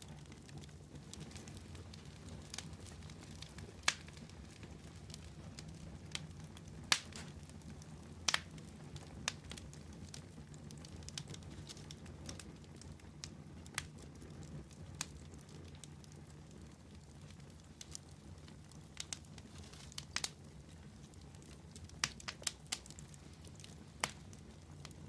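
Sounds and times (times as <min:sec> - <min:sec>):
campfire crackling and popping: 0:00.0 - 0:25.0
fire low rumble: 0:00.0 - 0:25.0.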